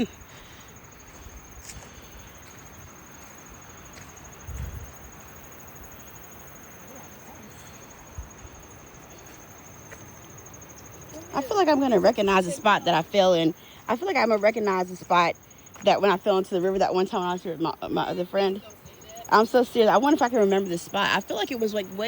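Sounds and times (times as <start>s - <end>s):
insect trilling: 0.0s - 22.0s
outdoor background hiss: 0.0s - 22.0s.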